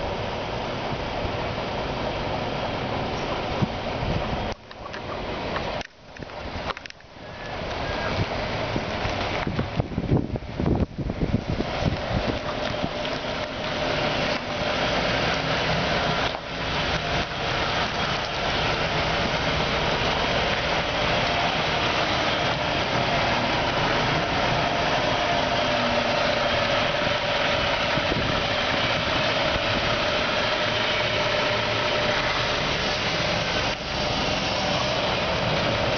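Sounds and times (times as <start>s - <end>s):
diesel bus engine running: 0.0s - 5.8s, 6.4s - 35.9s
engine whine: 0.0s - 35.9s.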